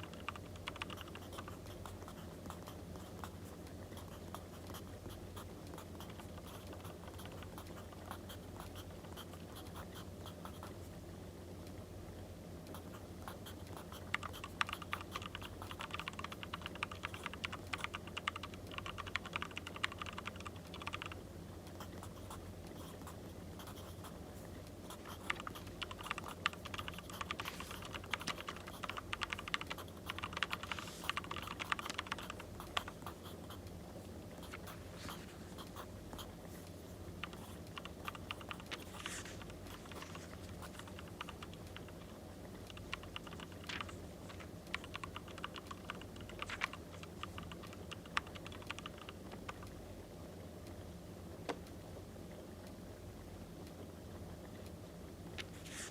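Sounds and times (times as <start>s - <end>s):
steady low background noise: 0.0s - 55.9s.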